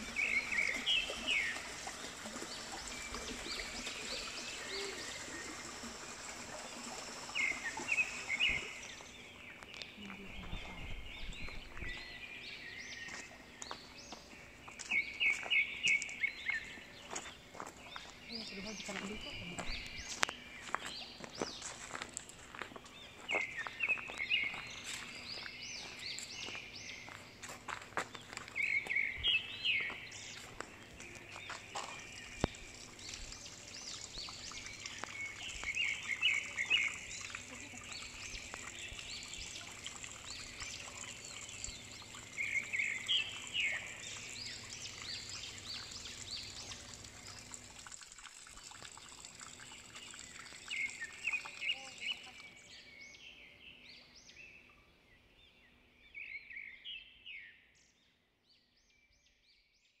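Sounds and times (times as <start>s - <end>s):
birds chirping: 0.0s - 57.5s.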